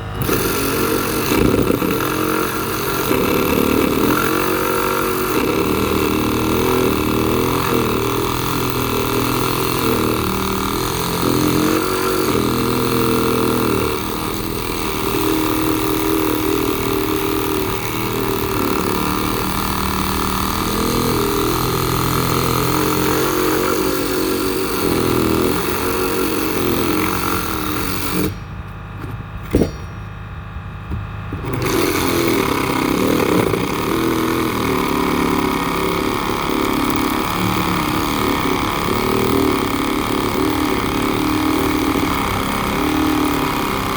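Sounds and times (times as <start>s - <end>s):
reciprocating saw cutting wood: 0.0s - 28.4s, 31.4s - 43.9s.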